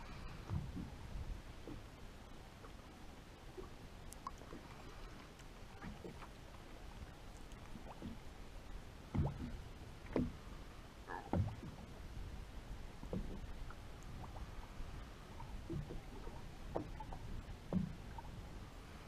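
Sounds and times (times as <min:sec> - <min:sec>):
water slapping against a boat hull: 0:00.0 - 0:02.0, 0:03.5 - 0:19.0.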